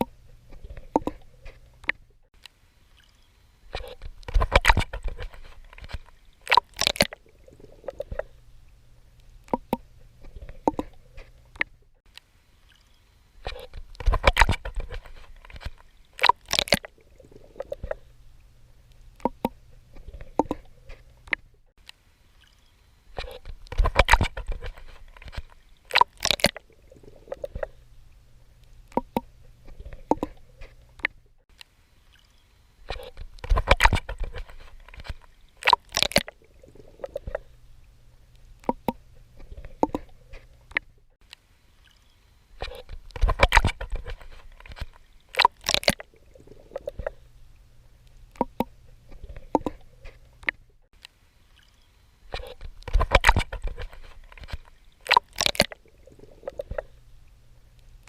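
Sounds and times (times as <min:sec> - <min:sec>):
low water sound: 0:00.0 - 0:58.0.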